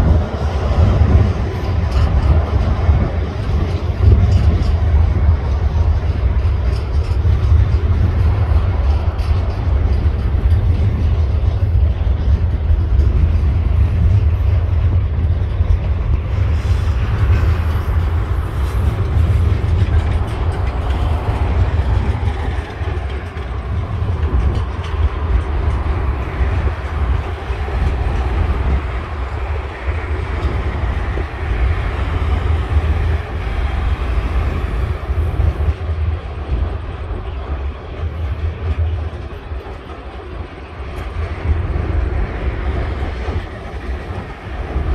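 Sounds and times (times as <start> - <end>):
freight wagons rumbling on rails: 0.0 - 44.9.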